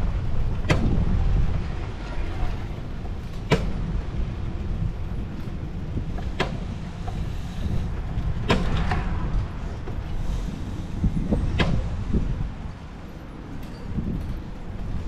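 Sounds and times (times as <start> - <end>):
bicycle tyres rolling: 0.0 - 15.0
bike rattling: 0.0 - 15.0
wind on microphone: 0.0 - 15.0.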